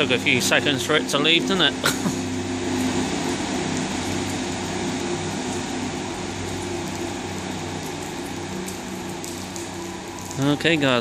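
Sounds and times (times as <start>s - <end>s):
train diesel engines running: 0.0s - 11.0s.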